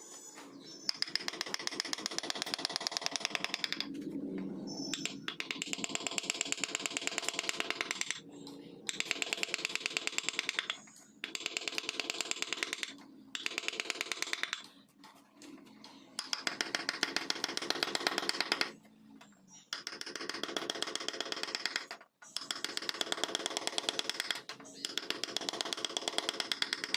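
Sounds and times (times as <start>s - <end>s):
carving tools tapping on wood: 0.8s - 4.0s, 4.9s - 8.2s, 8.9s - 14.7s, 16.2s - 18.8s, 19.7s - 26.9s.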